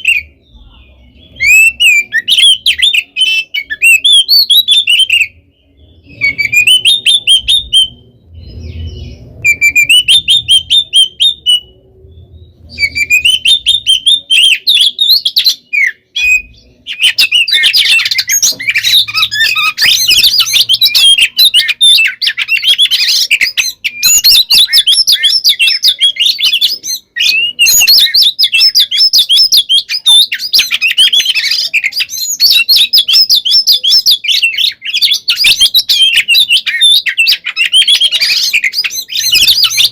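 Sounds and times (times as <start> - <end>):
songbird whistles and chattering: 0.0 - 39.9.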